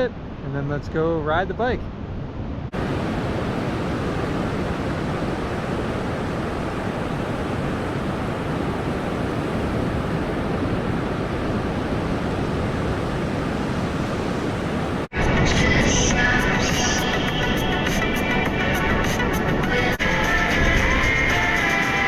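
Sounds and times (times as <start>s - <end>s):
wind: 0.0s - 22.0s
ocean surf roaring: 2.7s - 22.0s.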